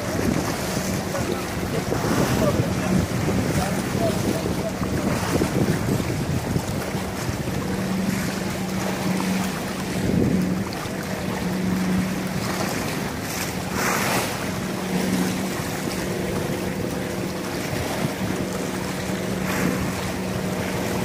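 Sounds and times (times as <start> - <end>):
choppy sea water: 0.0 - 21.0
steady low hum: 0.0 - 21.0
wind buffeting microphone: 0.0 - 21.0.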